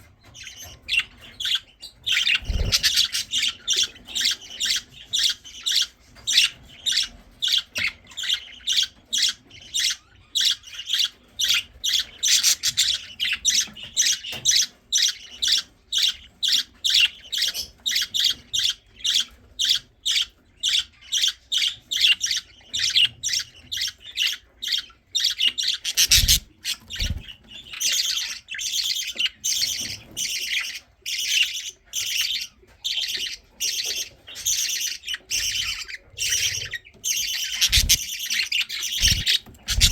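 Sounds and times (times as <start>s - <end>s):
budgie chicks squawking: 0.0s - 39.9s.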